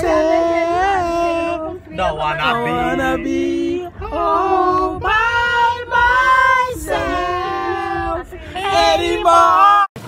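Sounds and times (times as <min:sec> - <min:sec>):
group of people singing: 0:00.0 - 0:10.0.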